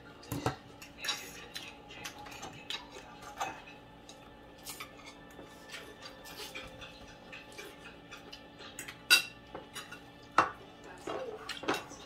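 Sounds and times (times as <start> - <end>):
cutlery clicking on plates: 0.2 - 12.0.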